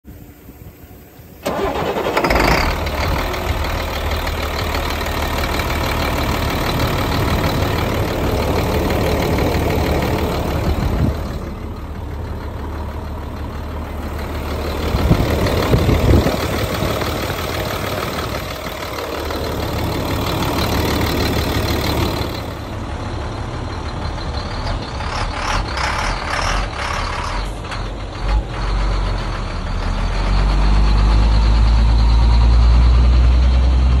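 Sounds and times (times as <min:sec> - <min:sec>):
diesel truck engine starting and idling: 0:00.1 - 0:34.0.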